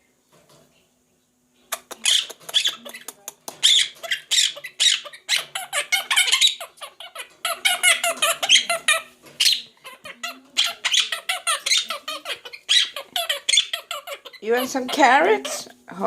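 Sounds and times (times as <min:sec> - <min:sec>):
parrot squawking and chattering: 0:01.7 - 0:15.8.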